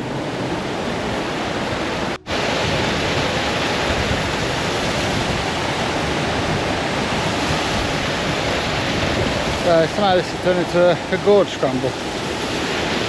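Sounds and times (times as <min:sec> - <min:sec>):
water rushing through rock gorge: 0:00.0 - 0:13.0.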